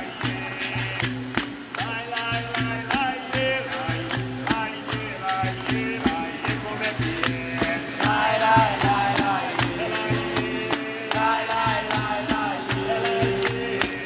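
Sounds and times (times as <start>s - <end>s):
sharp percussion strokes: 0.0s - 14.0s
voices singing: 0.0s - 14.0s.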